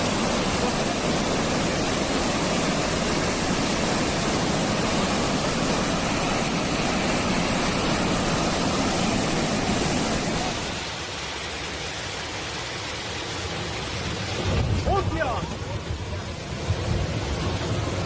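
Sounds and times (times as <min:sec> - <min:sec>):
churning water rushing: 0:00.0 - 0:18.0.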